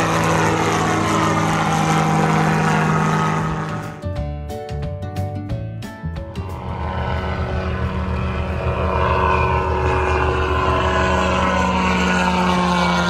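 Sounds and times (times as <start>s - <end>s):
light aircraft engine drone: 0.0s - 4.8s, 5.4s - 13.0s.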